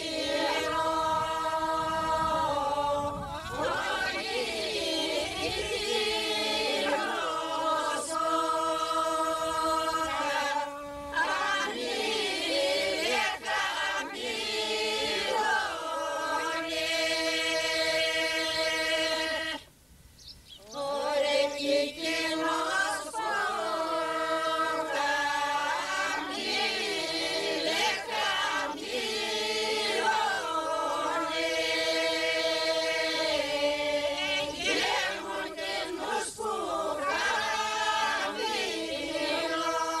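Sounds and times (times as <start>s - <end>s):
group singing without instruments: 0.0s - 19.8s, 20.6s - 40.0s.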